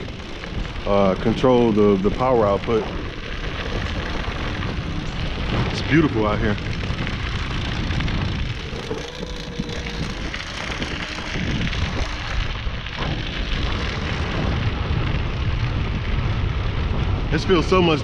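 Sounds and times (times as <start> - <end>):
tyres rumbling on gravel: 0.0 - 18.0.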